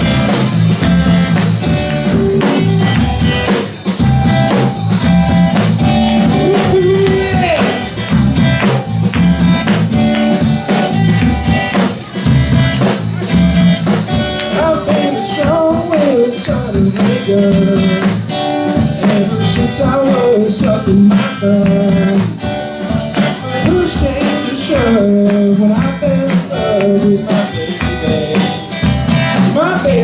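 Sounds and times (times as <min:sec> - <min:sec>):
bent electric guitar notes: 0:00.0 - 0:30.0
live country band playing: 0:00.0 - 0:30.0.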